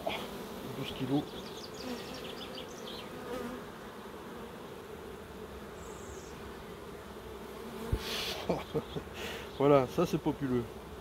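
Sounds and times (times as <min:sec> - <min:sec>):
honeybees humming: 0:00.0 - 0:11.0.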